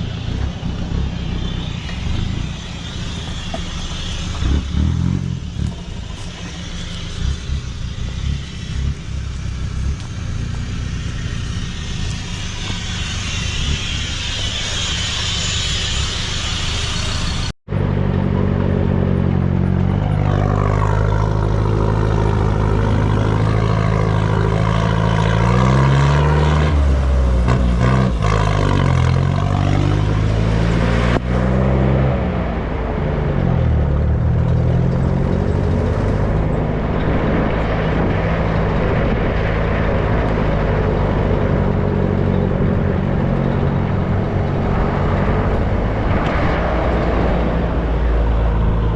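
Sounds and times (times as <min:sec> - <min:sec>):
noisy clatter: 0:00.0 - 0:31.3, 0:33.4 - 0:48.9
diesel engine revving: 0:00.0 - 0:48.9.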